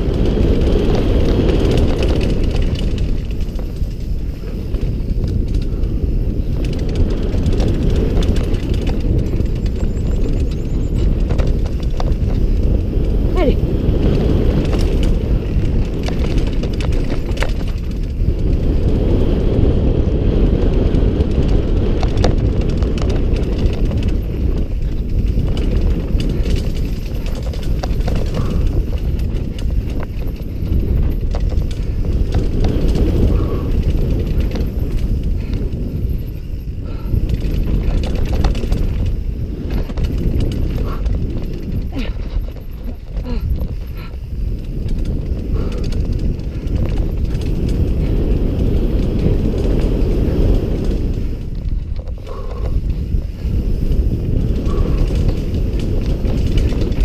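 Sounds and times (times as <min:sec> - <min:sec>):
bike rattling over ground: 0:00.0 - 0:57.0
wind buffeting microphone: 0:00.0 - 0:57.0.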